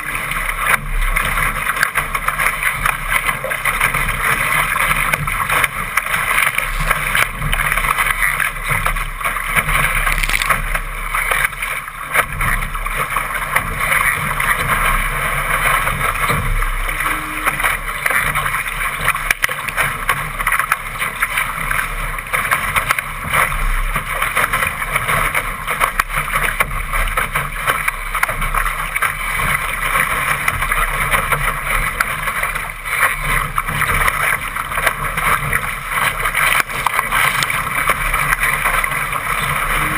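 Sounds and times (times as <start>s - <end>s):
water rushing off a boat bow: 0.0s - 39.9s.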